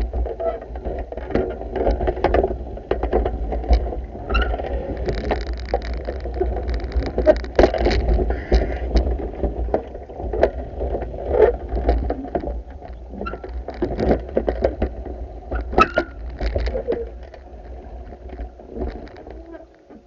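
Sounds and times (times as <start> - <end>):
churning water: 0.0 - 20.0.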